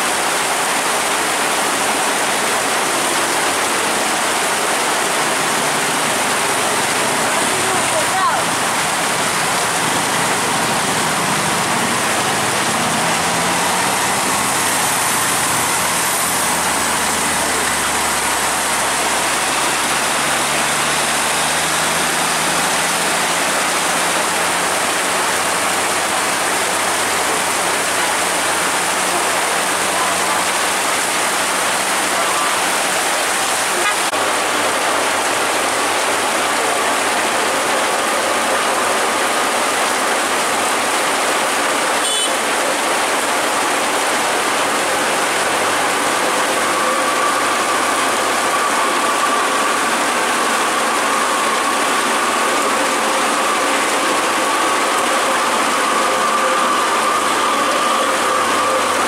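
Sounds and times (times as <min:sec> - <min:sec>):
heavy rain pouring: 0:00.0 - 0:59.0
truck diesel engine rumbling: 0:02.7 - 0:59.0.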